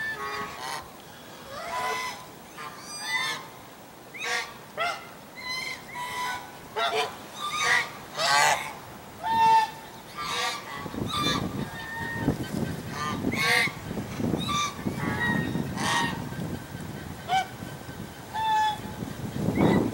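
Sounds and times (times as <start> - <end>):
geese honking: 0.0 - 0.9, 1.5 - 3.5, 4.2 - 19.9.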